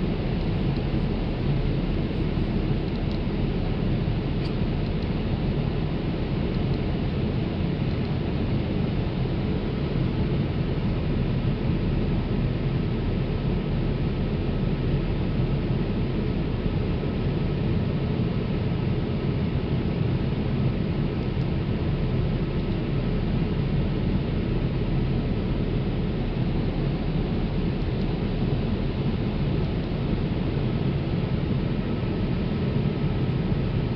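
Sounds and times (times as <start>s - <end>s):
airplane cabin engine rush: 0.0s - 33.9s.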